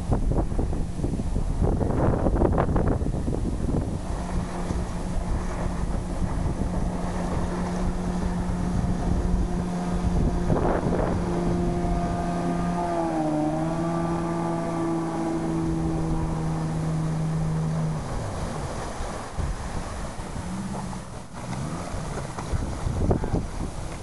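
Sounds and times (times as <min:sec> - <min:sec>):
outboard motor running: 0:00.0 - 0:24.0
wind buffeting microphone: 0:00.0 - 0:24.0.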